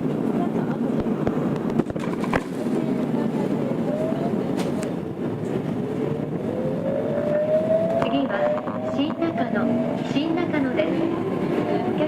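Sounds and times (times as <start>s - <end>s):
wheels rumbling on rails: 0.0s - 12.0s.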